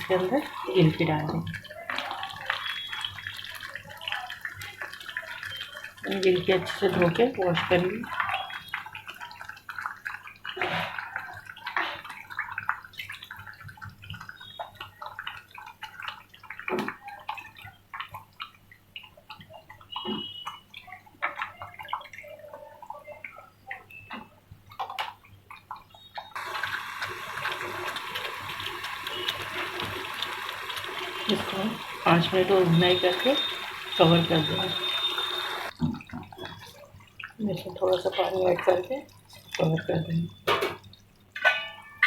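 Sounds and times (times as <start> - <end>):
water splashing and dripping: 0.0 - 42.0.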